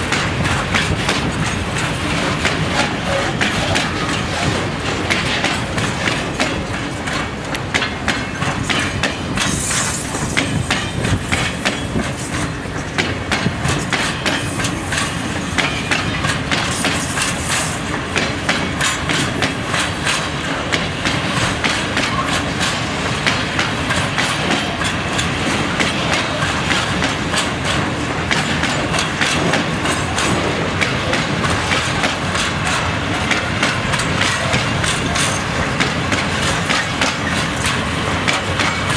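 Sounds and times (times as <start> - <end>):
train wheels clicking over rail joints: 0.0 - 38.9.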